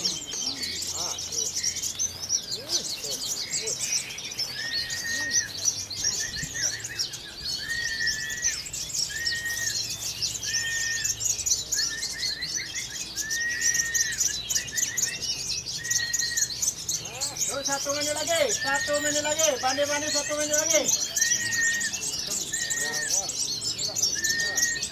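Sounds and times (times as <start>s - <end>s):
caged songbirds chirping and trilling: 0.0s - 24.9s.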